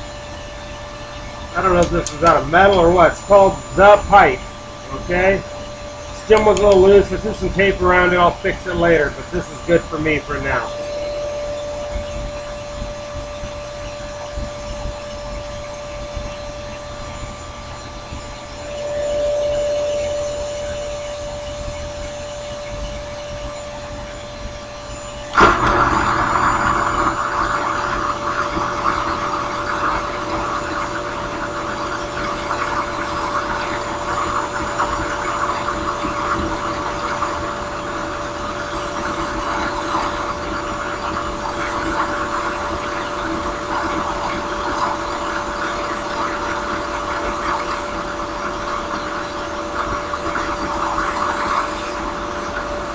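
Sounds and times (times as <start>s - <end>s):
drill press humming: 0.0s - 52.9s.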